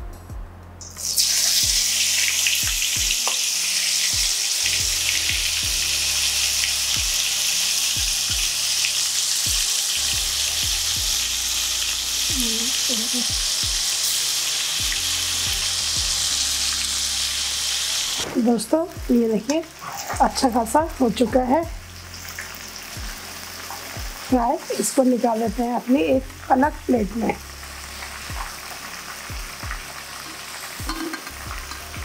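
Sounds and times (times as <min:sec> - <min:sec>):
food deep-frying in oil: 0:00.8 - 0:32.0.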